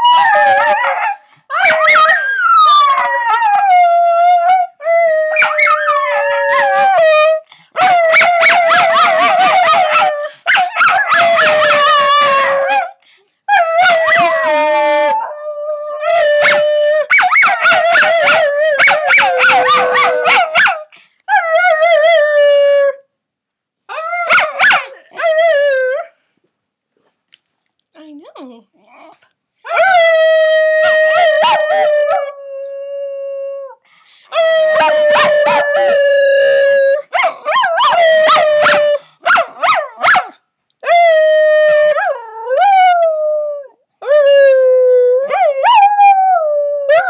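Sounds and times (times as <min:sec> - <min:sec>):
puppy howling: 0:00.0 - 0:12.9, 0:13.5 - 0:23.0, 0:29.7 - 0:33.3, 0:34.4 - 0:40.2, 0:40.8 - 0:47.0.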